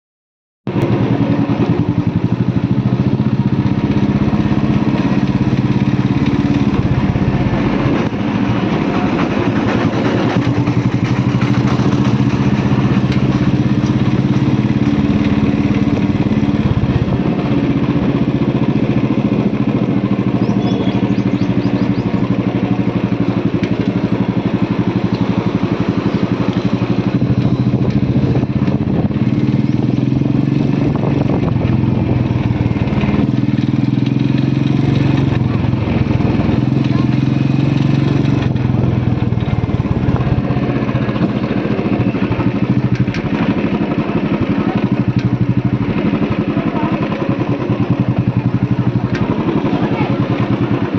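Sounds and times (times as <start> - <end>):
motorcycle engine running: 0.7 - 50.9.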